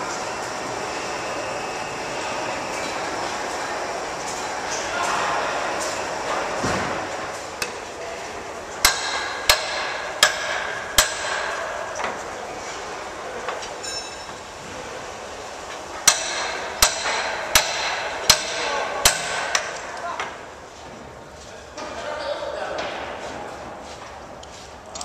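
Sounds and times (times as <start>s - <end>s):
workshop noise: 0.0s - 25.0s.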